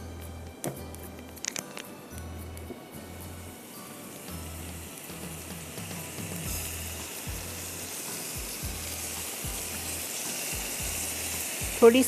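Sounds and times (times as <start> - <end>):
background music with low beat: 0.0 - 12.0
food sizzling in hot oil: 1.1 - 12.0.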